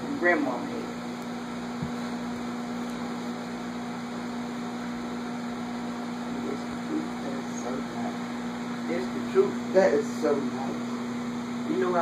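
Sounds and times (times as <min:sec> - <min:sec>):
low electrical drone: 0:00.0 - 0:12.0.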